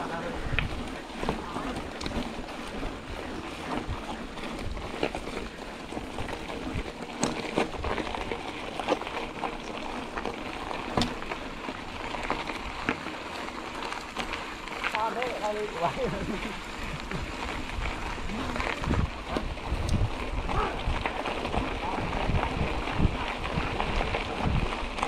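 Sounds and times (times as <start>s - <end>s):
bike knocks and rattles: 0.0s - 25.0s
bike rolling rushing noise: 0.0s - 25.0s.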